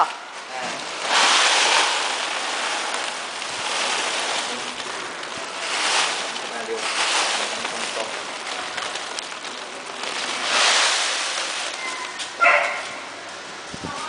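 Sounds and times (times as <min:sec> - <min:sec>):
granular material pouring from a sack: 0:00.0 - 0:14.0.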